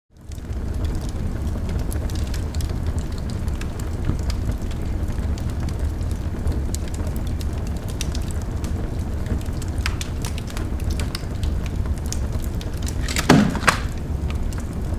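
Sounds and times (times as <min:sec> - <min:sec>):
wood fire crackling: 0:00.1 - 0:14.9.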